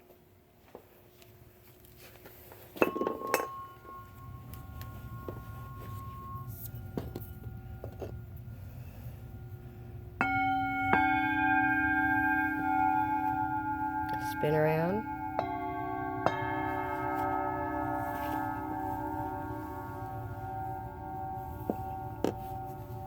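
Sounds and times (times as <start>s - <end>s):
singing bowls clinking: 2.5s - 23.0s
singing bowl ringing: 2.8s - 23.0s
singing bowl struck: 2.8s - 23.0s.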